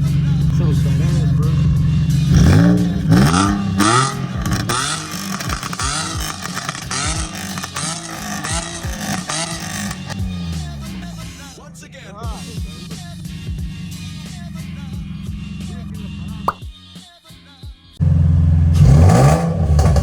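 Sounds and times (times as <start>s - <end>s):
car engine revving loudly: 0.0s - 16.5s, 18.0s - 20.0s.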